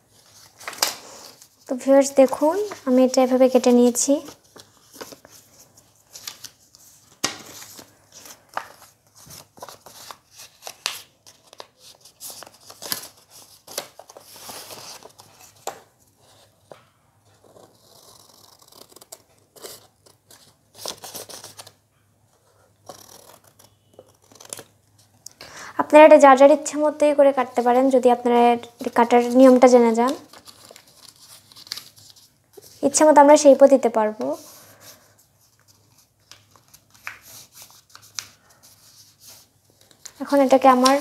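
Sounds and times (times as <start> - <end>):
paper rustling: 0.1 - 21.8, 28.8 - 33.1, 33.7 - 41.0.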